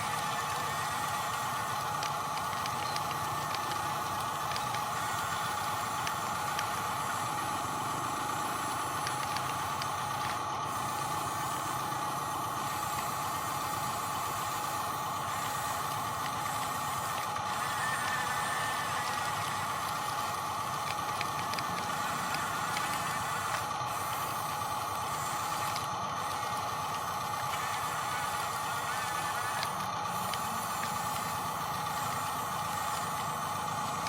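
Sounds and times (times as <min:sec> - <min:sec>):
small electric motor whining: 0:00.0 - 0:34.0.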